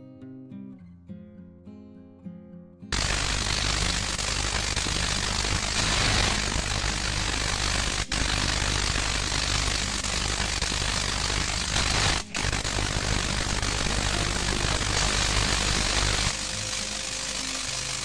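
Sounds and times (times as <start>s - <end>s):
tesla coil buzzing crackle: 2.9s - 18.0s.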